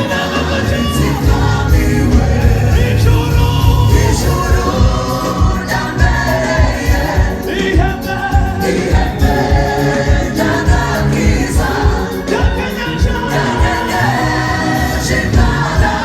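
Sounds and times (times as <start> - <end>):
drum and bass beat: 0.0 - 16.0
gospel choir singing: 0.0 - 16.0.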